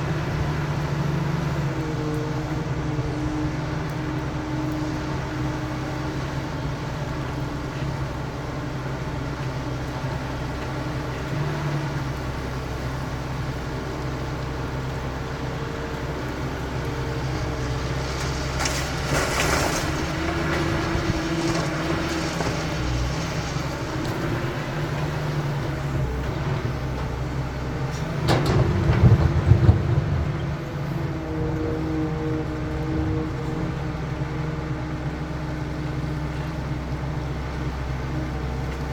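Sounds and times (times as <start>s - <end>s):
excavator diesel engine running: 0.0s - 38.9s
rumble with clatter: 0.0s - 38.9s.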